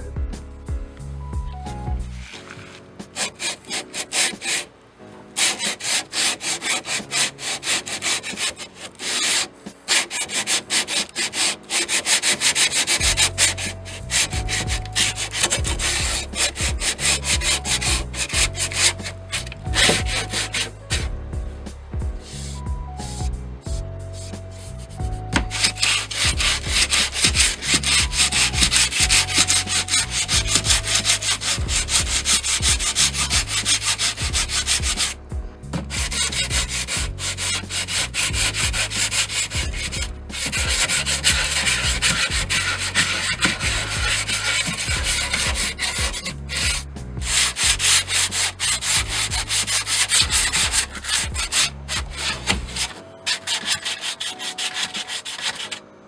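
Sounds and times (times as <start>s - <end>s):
sandpaper rubbing on wood: 2.2s - 4.7s, 5.4s - 55.8s.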